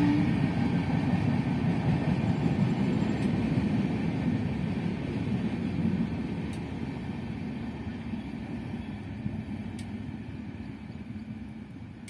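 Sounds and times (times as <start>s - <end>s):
passenger train rumble: 0.0s - 12.0s.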